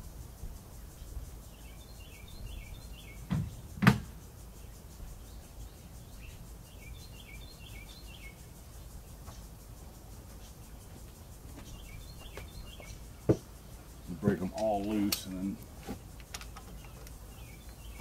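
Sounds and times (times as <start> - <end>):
low steady background noise: 0.0 - 18.0
small bird chirping: 0.9 - 18.0.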